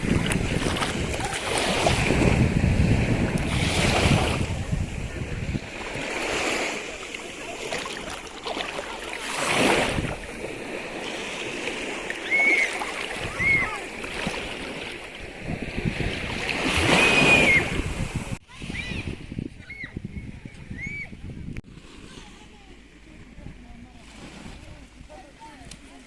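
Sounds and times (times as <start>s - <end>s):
ocean waves breaking: 0.0s - 19.2s, 21.6s - 26.0s
wind buffeting microphone: 0.0s - 21.8s.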